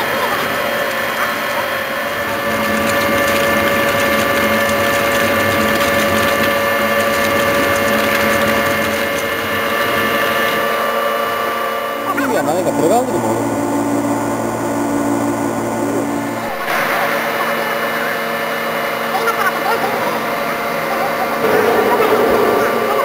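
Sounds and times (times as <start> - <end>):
coolant hiss: 0.0 - 23.0
machining whine: 0.0 - 23.0.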